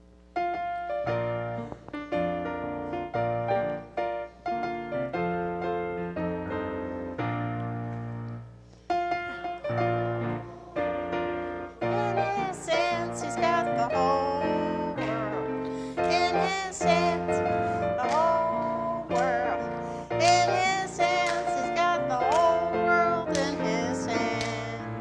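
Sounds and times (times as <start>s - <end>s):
piano playing hymn-like piece: 0.0s - 25.0s.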